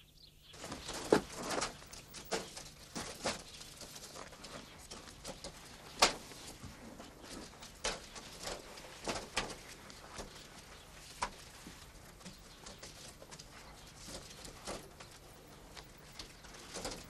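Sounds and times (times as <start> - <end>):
bamboo strips clicking and snapping: 0.6 - 17.0.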